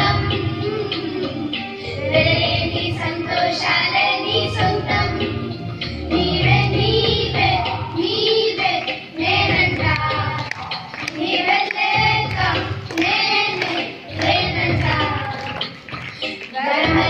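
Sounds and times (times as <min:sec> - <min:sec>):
children singing into microphones: 0:00.0 - 0:17.0.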